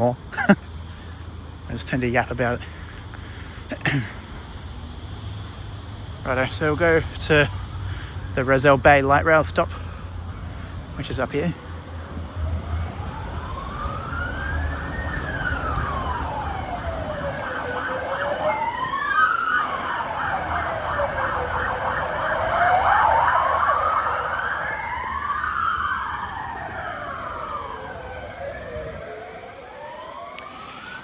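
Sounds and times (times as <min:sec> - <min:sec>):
emergency vehicle sirens wailing: 0:00.0 - 0:31.0.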